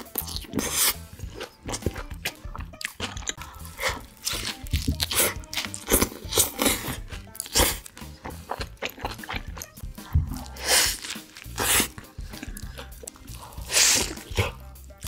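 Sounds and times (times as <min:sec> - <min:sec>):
chewing crunchy burger: 0:00.0 - 0:15.0.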